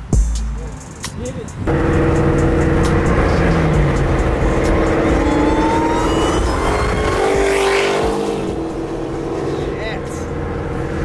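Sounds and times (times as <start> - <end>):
car engine running hard: 1.4 - 11.0
supercharger whine: 1.6 - 11.0.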